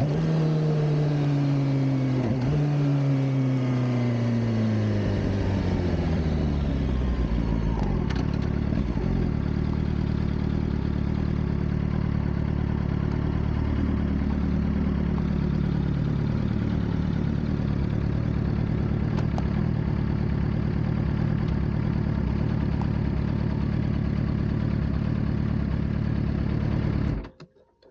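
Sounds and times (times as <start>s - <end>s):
motorcycle engine idling: 0.0s - 27.2s.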